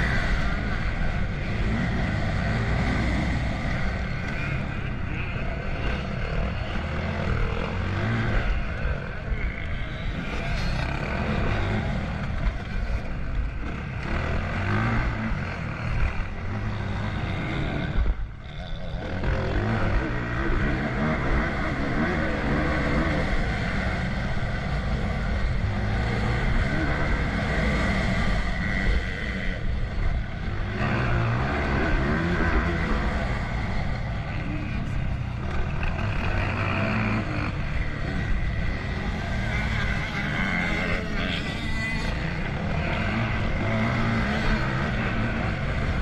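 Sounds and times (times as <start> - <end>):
motocross bike engine revving: 0.0 - 46.0.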